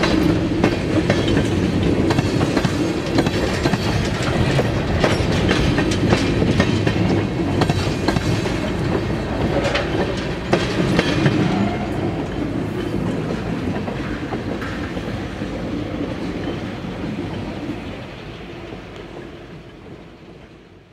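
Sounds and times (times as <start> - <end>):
train wheels clicking over rail joints: 0.0 - 20.7
heavy train rumble: 0.0 - 20.9.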